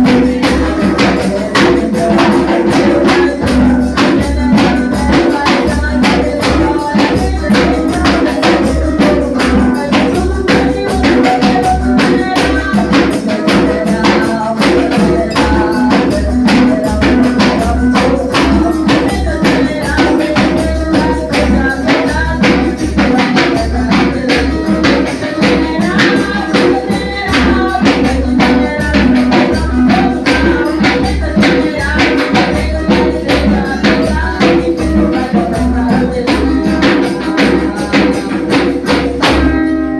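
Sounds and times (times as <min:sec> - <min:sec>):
faint singing: 0:00.0 - 0:39.9
gospel band playing: 0:00.0 - 0:39.9
tambourine shaken and struck: 0:00.0 - 0:39.9.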